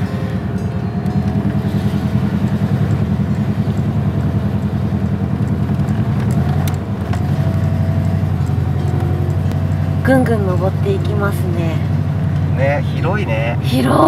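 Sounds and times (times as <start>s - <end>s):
van engine drone: 0.0s - 14.0s.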